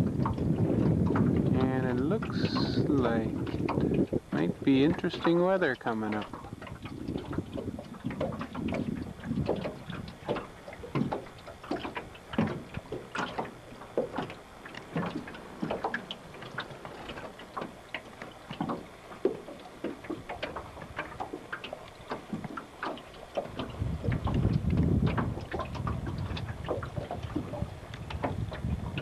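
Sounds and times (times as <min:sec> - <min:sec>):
water lapping against boat hull: 0:00.0 - 0:29.0.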